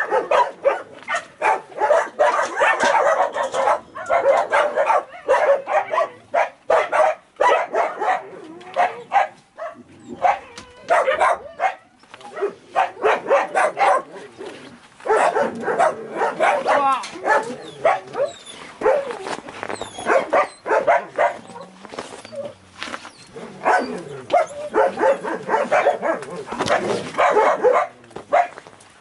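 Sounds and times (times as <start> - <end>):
dogs barking: 0.0 - 14.4, 15.0 - 19.3, 20.0 - 22.6, 23.3 - 28.6.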